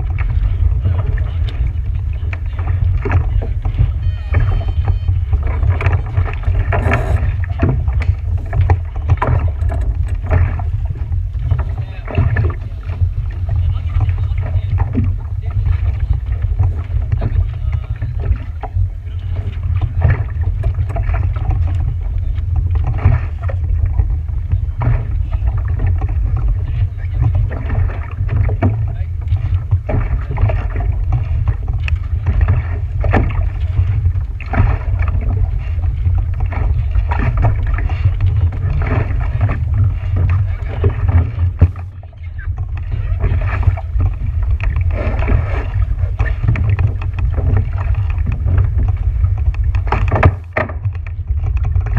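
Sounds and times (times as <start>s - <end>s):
boat engine rumble: 0.0s - 51.9s
water splashes and knocks: 0.0s - 51.9s.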